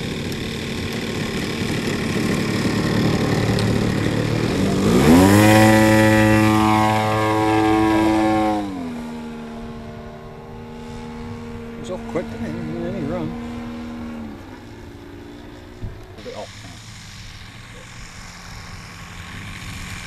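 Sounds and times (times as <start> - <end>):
model plane engine and propeller: 0.0 - 20.0.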